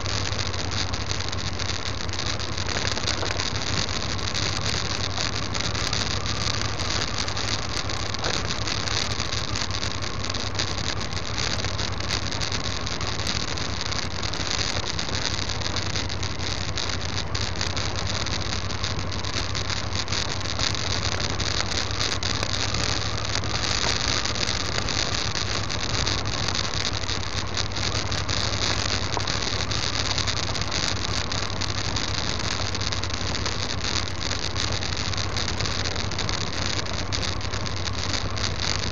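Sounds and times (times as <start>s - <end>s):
gravel ticking under tyres: 0.0s - 38.9s
vehicle engine and road noise: 0.0s - 38.9s.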